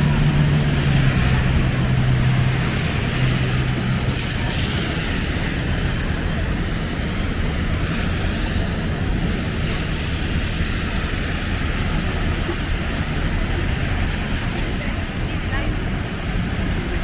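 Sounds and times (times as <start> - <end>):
city street noise in snowstorm: 0.0 - 17.0
deep low rumble: 0.0 - 17.0.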